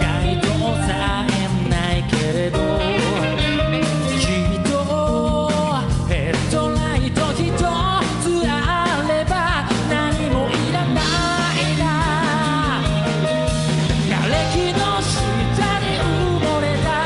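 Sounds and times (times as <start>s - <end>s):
bass guitar: 0.0s - 17.0s
electric guitar: 0.0s - 17.0s
person singing: 0.0s - 17.0s
steady drum beat: 0.0s - 17.0s.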